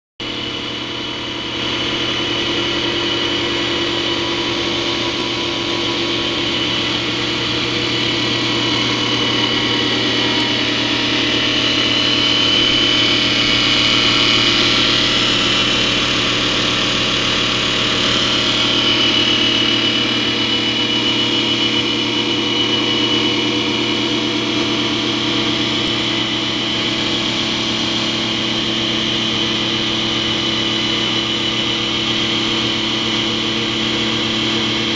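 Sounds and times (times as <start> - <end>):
wood lathe whining: 0.2 - 34.9.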